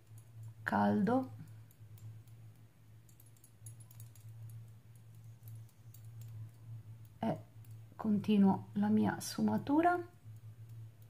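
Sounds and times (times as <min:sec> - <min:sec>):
light clicks and ticks: 0:00.0 - 0:08.8, 0:09.4 - 0:11.0
low hum: 0:00.0 - 0:11.0.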